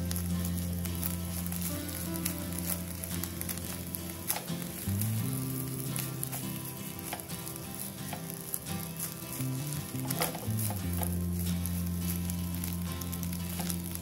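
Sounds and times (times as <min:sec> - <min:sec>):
rice sizzling in a frying pan: 0:00.0 - 0:14.0
soft background music: 0:00.0 - 0:14.0.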